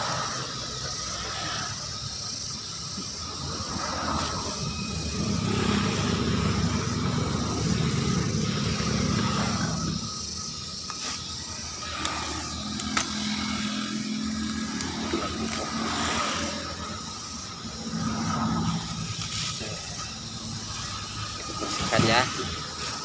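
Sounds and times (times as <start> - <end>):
vehicle engine passing: 3.3 - 23.0.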